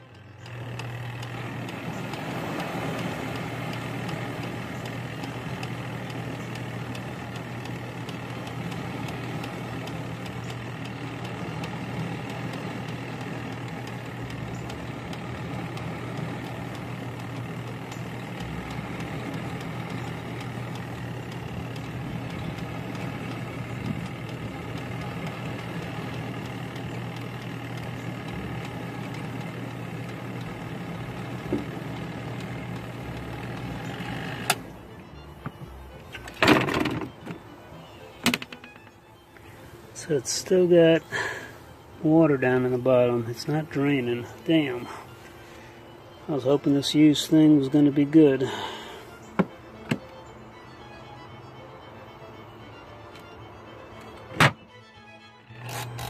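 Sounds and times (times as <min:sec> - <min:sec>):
washing machine motor humming: 0:00.0 - 0:50.4, 0:52.0 - 0:56.0.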